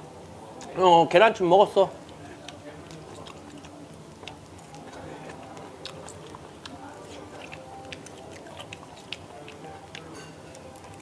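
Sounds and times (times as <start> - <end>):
murmur of background voices: 0.0 - 11.0
man chewing food: 1.8 - 11.0.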